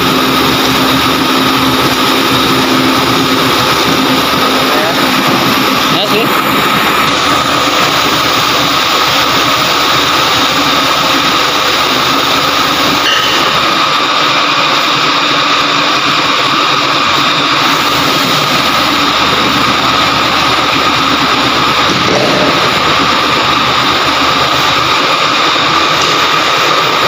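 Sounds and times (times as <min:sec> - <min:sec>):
machinery drone with high whine: 0:00.0 - 0:27.0.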